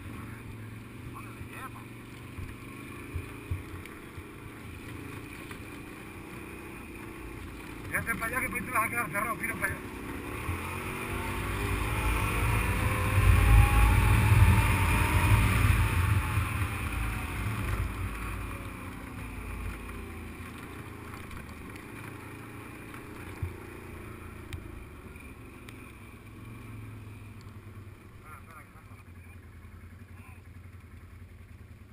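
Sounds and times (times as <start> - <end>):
off-road vehicle engine: 0.0 - 31.9.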